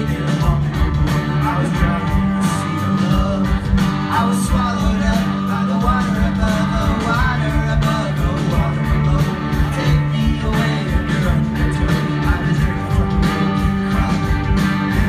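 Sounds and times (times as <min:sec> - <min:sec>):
live rock band with singer: 0:00.0 - 0:15.0.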